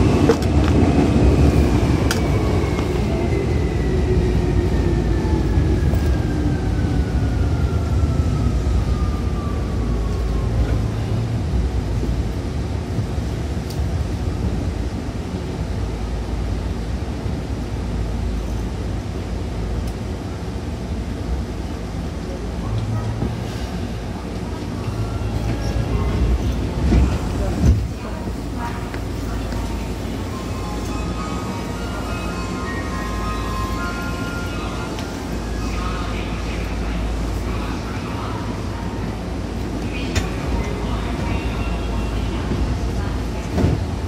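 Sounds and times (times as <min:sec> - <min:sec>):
train running gear rumble: 0:00.0 - 0:44.0.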